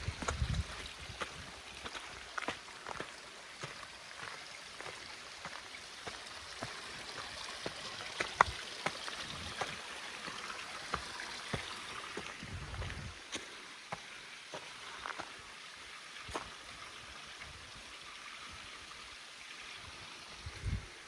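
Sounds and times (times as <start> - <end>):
stream flowing: 0.0 - 21.0.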